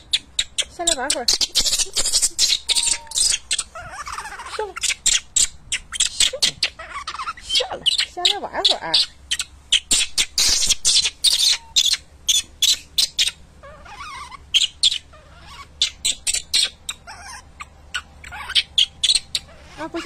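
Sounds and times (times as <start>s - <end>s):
baby monkey squealing: 0.0s - 20.0s.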